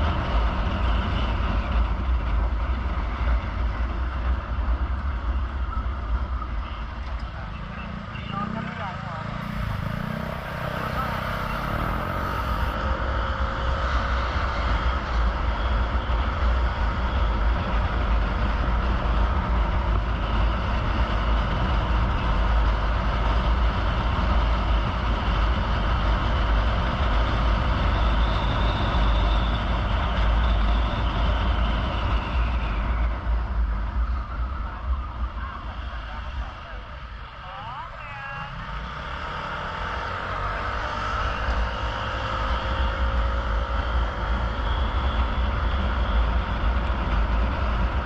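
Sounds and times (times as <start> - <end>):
road noise: 0.0 - 48.0
vehicle engine rumble: 0.0 - 48.0.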